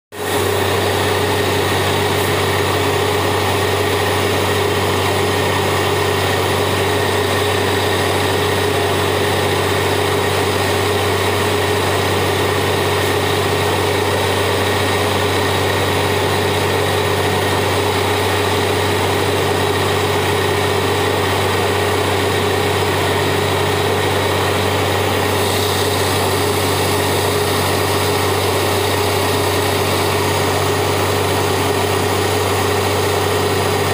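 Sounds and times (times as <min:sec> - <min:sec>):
drilling rig engine droning: 0:00.2 - 0:33.9.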